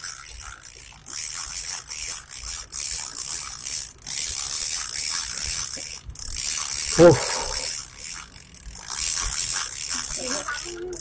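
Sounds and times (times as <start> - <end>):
fishing reel clicking: 0.0 - 11.0.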